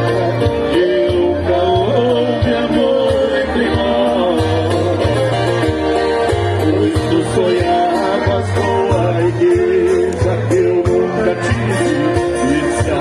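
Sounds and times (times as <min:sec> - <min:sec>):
repeated bass notes: 0:00.0 - 0:13.0
viola and guitars playing a melody: 0:00.0 - 0:13.0.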